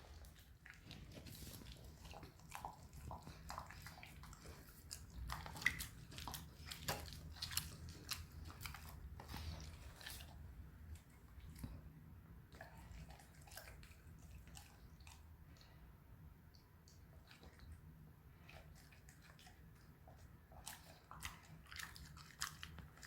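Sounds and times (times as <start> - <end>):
dog chewing and licking food: 0.0 - 15.8, 16.5 - 23.0.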